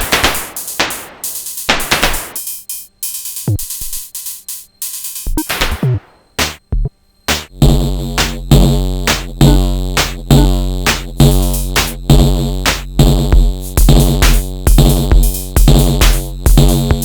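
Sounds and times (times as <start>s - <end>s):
drum machine percussive hits: 0.0s - 17.0s.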